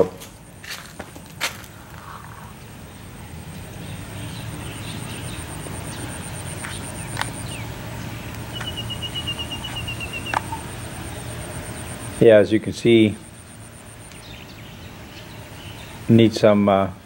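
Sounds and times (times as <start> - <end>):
low hum: 0.0 - 16.1
pulsing insect trill: 0.0 - 17.0.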